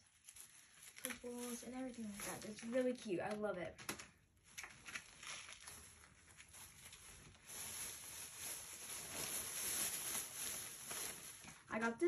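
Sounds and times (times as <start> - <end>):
plastic bag rustling: 0.0 - 3.2, 4.4 - 12.0.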